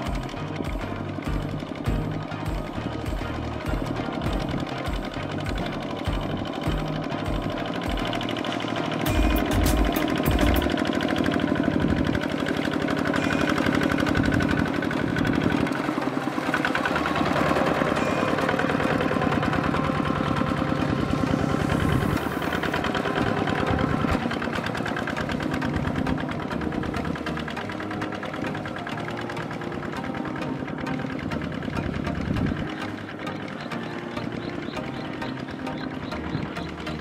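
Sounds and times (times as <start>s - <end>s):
diesel engine knocking steadily: 0.0s - 37.0s.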